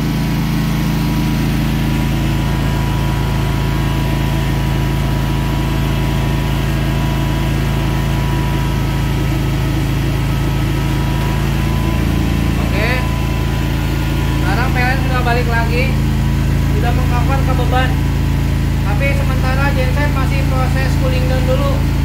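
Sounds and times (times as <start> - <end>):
generator engine humming: 0.0 - 22.0.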